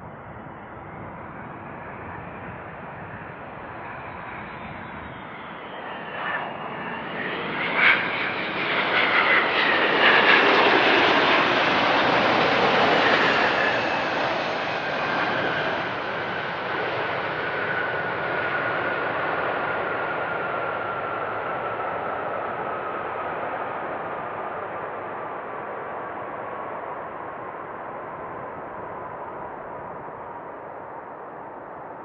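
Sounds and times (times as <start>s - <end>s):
jet airliner passing: 0.0s - 32.0s.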